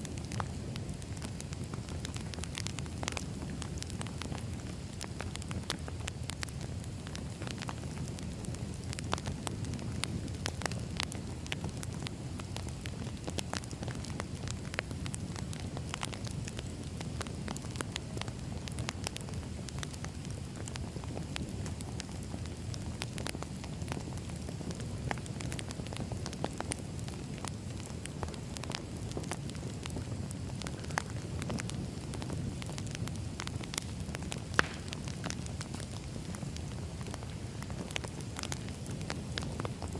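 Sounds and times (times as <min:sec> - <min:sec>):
low rumble of fire: 0:00.0 - 0:39.9
wood crackling and popping: 0:00.0 - 0:39.9.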